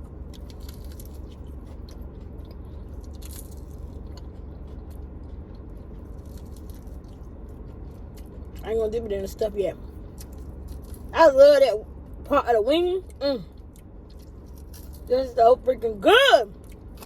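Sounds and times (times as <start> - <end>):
crunching and chewing: 0.0 - 11.2, 13.0 - 15.8, 16.4 - 17.0
steady low hum: 0.0 - 17.0.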